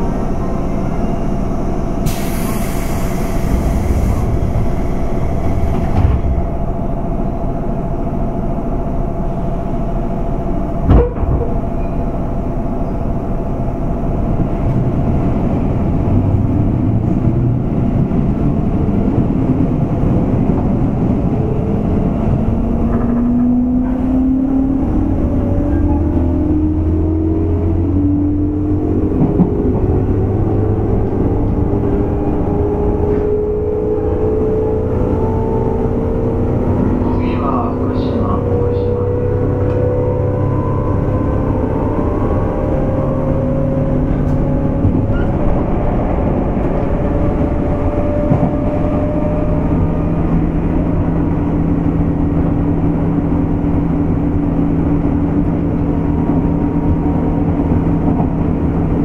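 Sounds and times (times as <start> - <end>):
wheel-on-rail rumble: 0.0 - 59.0.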